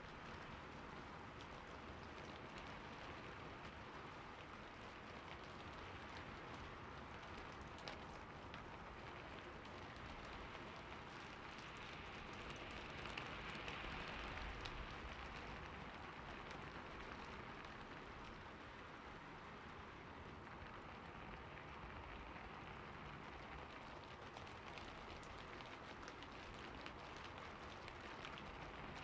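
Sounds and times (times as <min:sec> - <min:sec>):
rain on a roof: 0:00.0 - 0:29.0.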